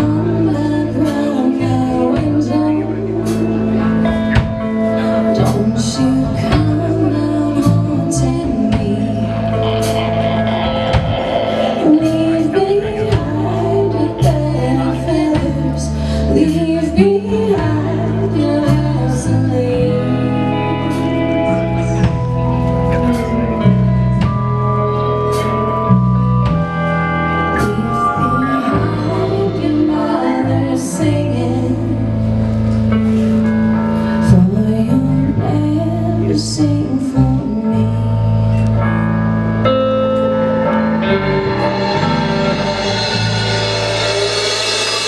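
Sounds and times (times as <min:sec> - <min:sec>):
person singing: 0:00.0 - 0:24.3, 0:27.2 - 0:39.0
live band playing: 0:00.0 - 0:45.0.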